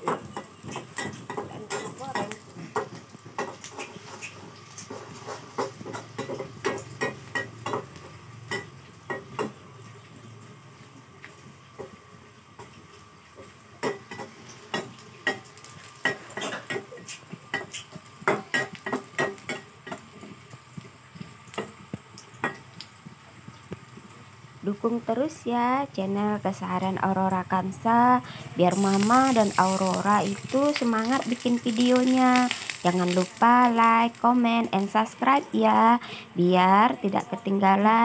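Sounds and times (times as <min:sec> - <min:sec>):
light sizzle: 0:00.0 - 0:38.0.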